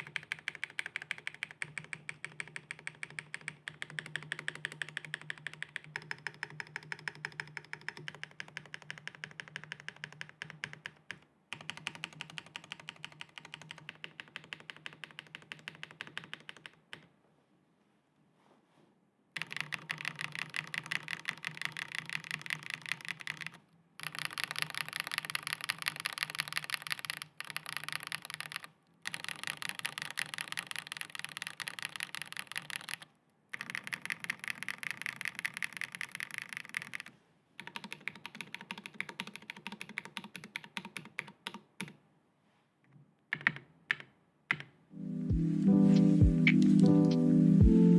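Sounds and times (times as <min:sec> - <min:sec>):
mechanical keyboard typing: 0:00.0 - 0:17.1, 0:19.4 - 0:42.0, 0:43.3 - 0:44.8.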